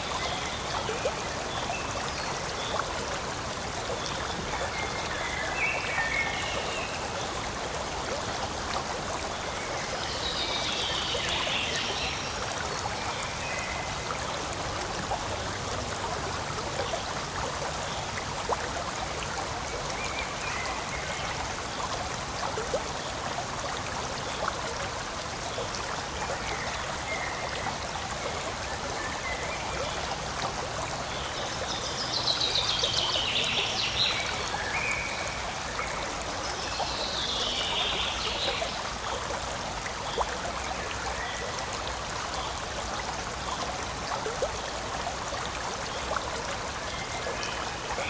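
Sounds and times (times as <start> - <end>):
stream trickling: 0.0 - 48.0.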